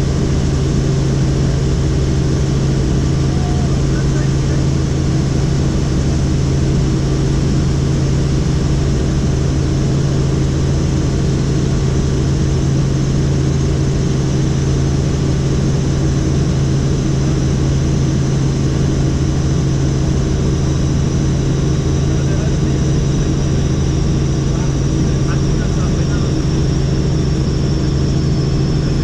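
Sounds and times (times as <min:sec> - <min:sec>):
helicopter engine and rotor: 0:00.0 - 0:29.0.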